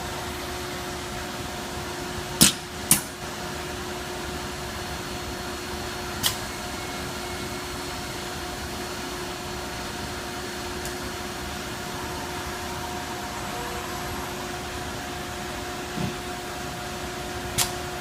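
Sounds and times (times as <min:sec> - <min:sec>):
machine cell humming: 0:00.0 - 0:18.0.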